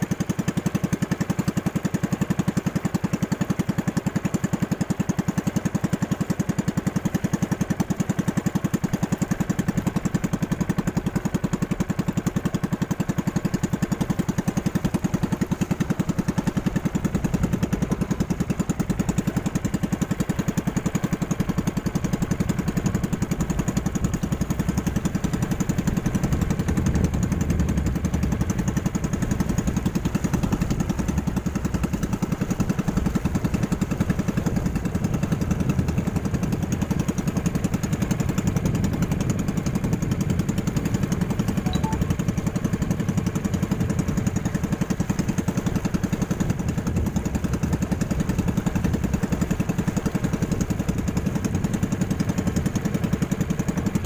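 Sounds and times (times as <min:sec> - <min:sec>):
small boat engine puttering: 0:00.0 - 0:54.0.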